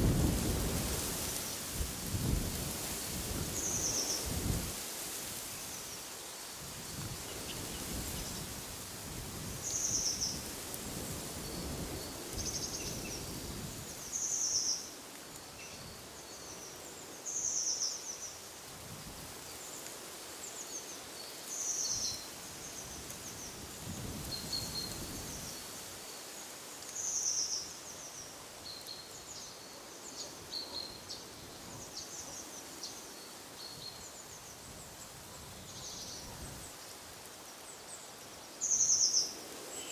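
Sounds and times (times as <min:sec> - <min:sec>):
wind hiss: 0:00.0 - 0:39.9.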